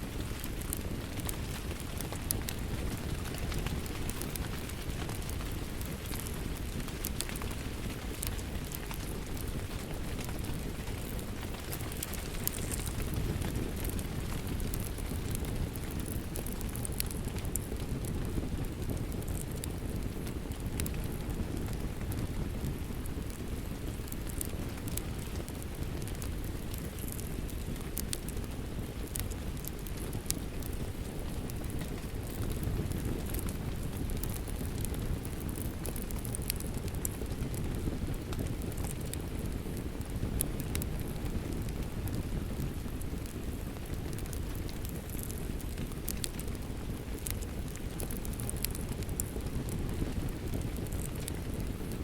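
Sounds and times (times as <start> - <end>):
steady rain: 0.0 - 52.0
wood fire crackling: 0.0 - 52.0.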